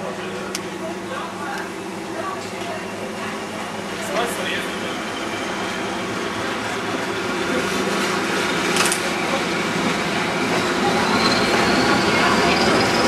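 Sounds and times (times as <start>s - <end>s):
engine drone: 0.0s - 13.0s
train wheels rumbling on rail: 0.0s - 13.0s.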